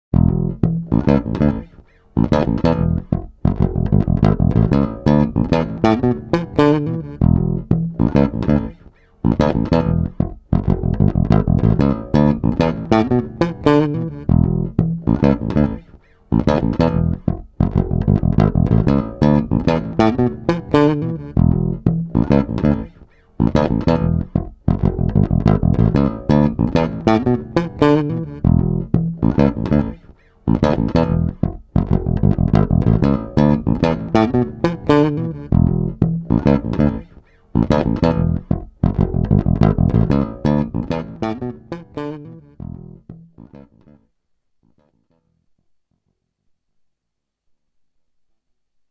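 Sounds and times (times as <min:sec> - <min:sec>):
electric bass funk line: 0:00.1 - 0:44.0.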